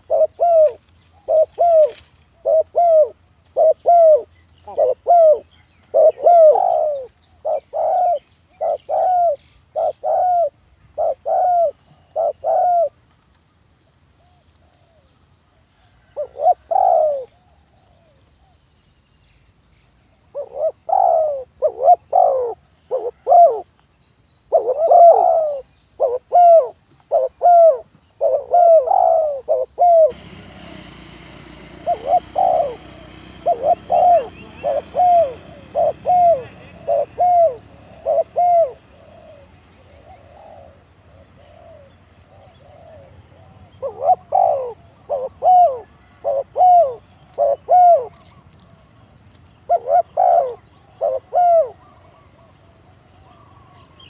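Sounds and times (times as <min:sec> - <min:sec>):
dove cooing: 0:00.0 - 0:13.0, 0:15.8 - 0:18.2, 0:20.3 - 0:23.7, 0:24.5 - 0:49.0, 0:49.6 - 0:54.0.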